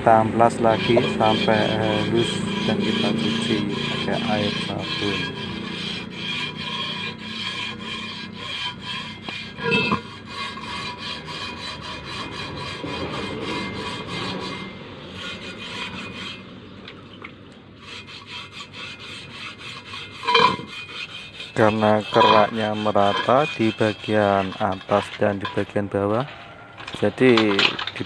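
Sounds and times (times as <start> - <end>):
sandpaper scraping metal rim: 0.1 - 16.4, 17.8 - 28.0.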